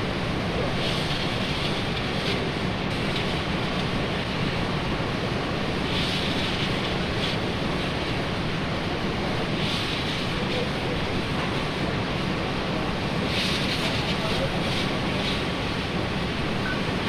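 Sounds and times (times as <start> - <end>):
steam hiss: 0.0 - 17.0.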